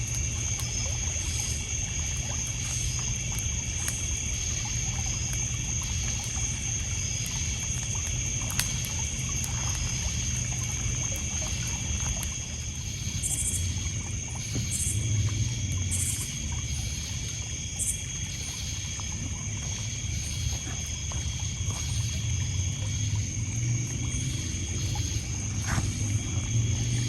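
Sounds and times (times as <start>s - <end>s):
campfire crackling: 0.0s - 27.0s
crickets and insects chirping: 0.0s - 27.0s
water lapping on pebbles: 0.0s - 27.0s.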